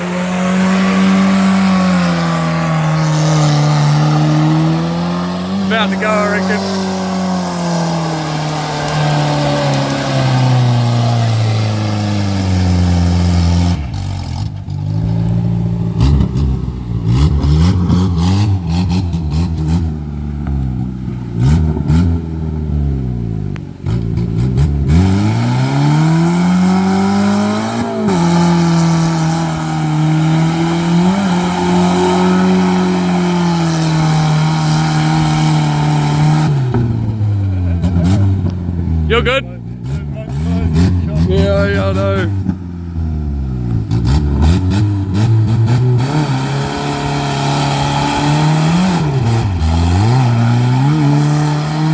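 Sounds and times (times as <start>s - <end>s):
car engine revving hard: 0.0s - 20.0s, 20.7s - 23.1s, 23.8s - 51.9s.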